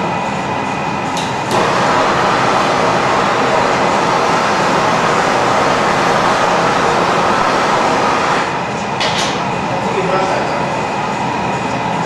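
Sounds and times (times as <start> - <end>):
gas furnace roaring: 0.0 - 12.0.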